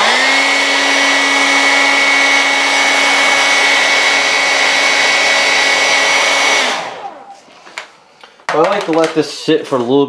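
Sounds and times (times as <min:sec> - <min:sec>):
hair dryer running: 0:00.0 - 0:08.1.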